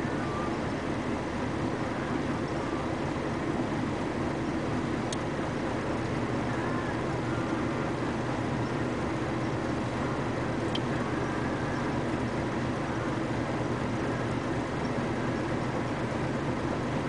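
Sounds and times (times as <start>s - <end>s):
dump truck idling: 0.0s - 17.0s
plant machinery running: 0.0s - 17.0s.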